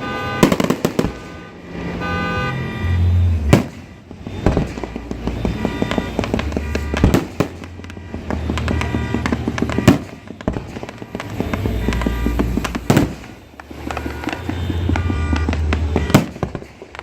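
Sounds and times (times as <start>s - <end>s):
fireworks booming: 0.0s - 2.4s, 3.2s - 17.0s
fireworks crackling: 0.2s - 2.1s, 3.4s - 17.0s.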